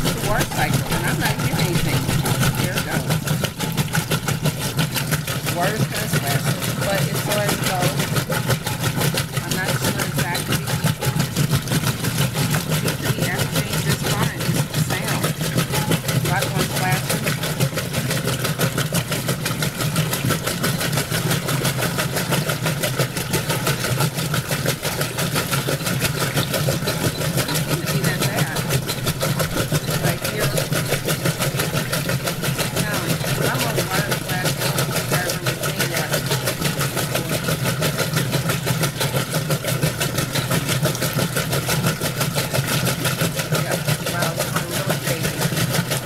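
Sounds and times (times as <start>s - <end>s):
rapid knocking: 0.0s - 46.0s
washing machine motor hum: 0.0s - 46.0s.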